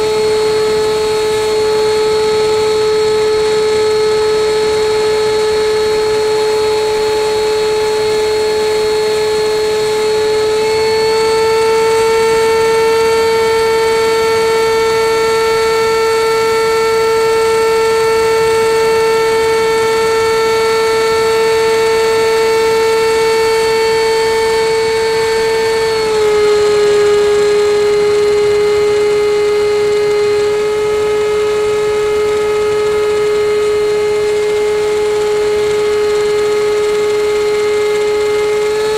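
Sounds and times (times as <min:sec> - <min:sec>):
model jet engine whine: 0:00.0 - 0:38.9.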